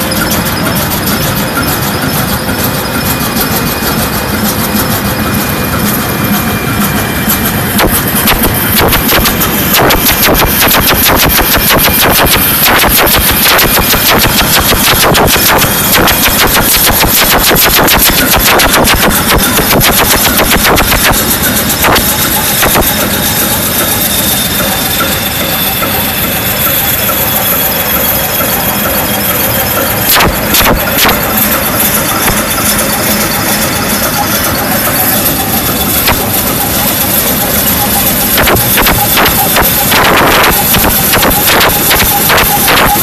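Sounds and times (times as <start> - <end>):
diesel engine exhaust beats: 0.0 - 43.0.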